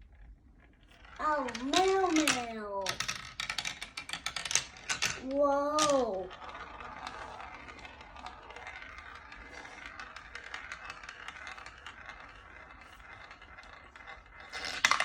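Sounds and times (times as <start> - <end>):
marbles rattling on track: 0.1 - 15.0.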